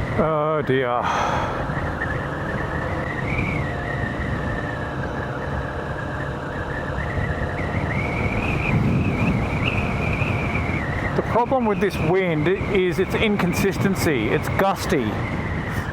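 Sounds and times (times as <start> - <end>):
motorcycle engine cruising: 0.0 - 15.9
wind buffeting microphone: 0.0 - 15.9.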